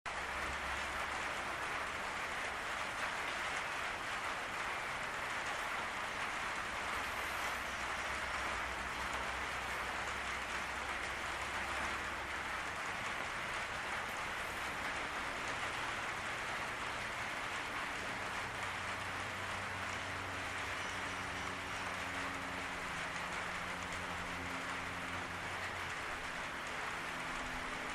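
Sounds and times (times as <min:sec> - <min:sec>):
rain on a roof: 0:00.1 - 0:27.9.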